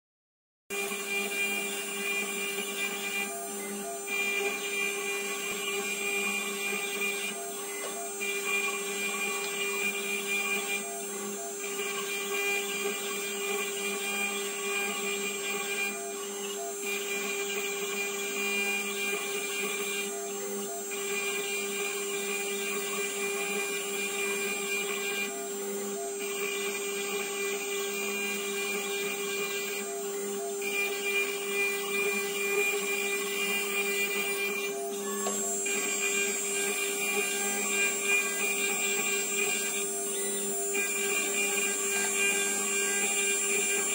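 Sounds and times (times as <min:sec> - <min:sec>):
gritty metal cutting noise: 0:00.7 - 0:43.9
router spindle whine: 0:00.7 - 0:43.9.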